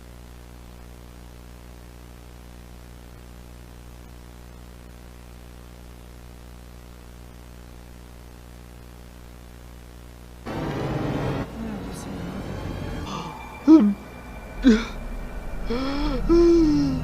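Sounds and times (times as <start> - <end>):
electrical hum: 0.0 - 17.0
static hiss: 0.0 - 17.0.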